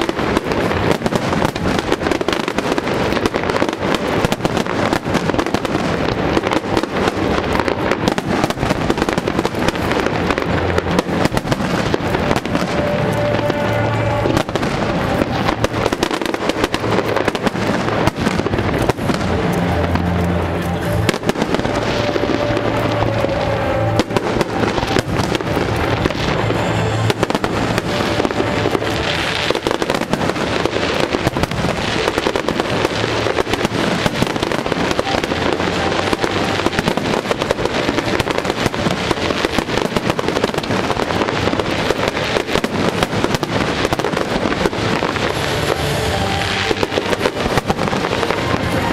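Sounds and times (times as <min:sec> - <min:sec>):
fireworks bangs and crackles: 0:00.0 - 0:48.9
music with held notes: 0:00.0 - 0:48.9.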